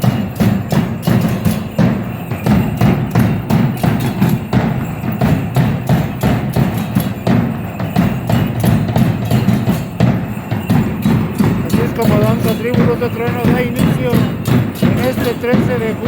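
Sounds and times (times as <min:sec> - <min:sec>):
fast steady drumming: 0:00.0 - 0:16.0.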